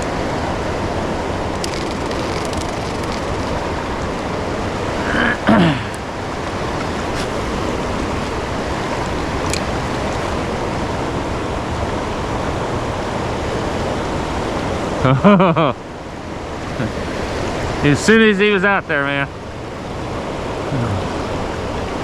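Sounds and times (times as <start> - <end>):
fast-flowing river water: 0.0 - 22.0.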